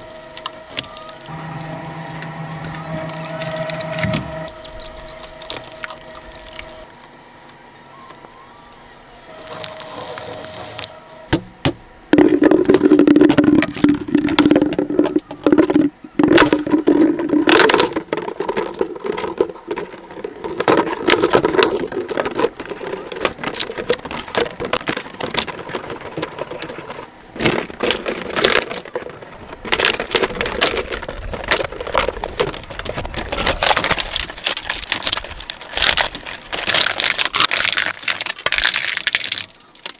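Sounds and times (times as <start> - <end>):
shredder crunching toys: 0.0 - 7.6, 8.2 - 39.9
shredder machine hum: 0.0 - 39.9.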